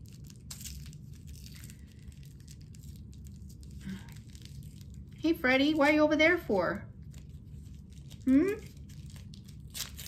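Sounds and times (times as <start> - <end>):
paper packaging shifting: 0.0 - 5.2, 7.0 - 10.0.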